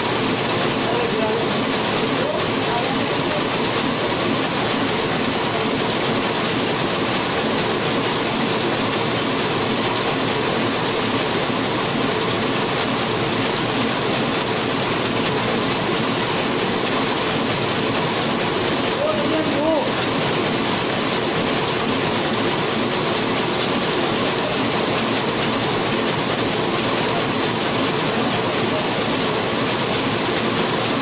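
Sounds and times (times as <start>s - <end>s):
printing press running: 0.0s - 31.0s.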